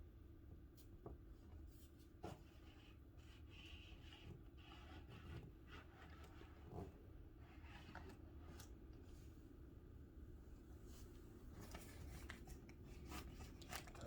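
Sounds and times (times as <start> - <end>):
faint scratching on a wall: 0.8 - 9.4, 10.8 - 14.0.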